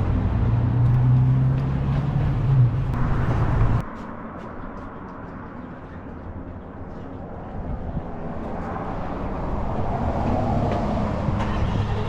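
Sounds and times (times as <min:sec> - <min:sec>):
faint street background: 0:00.0 - 0:12.0.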